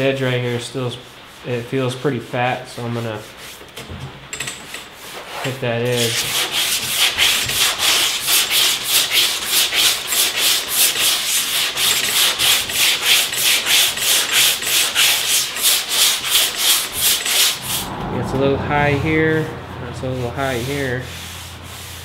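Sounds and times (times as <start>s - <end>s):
sandpaper rubbing back and forth: 0.5s - 3.7s, 5.0s - 17.6s, 20.1s - 22.0s.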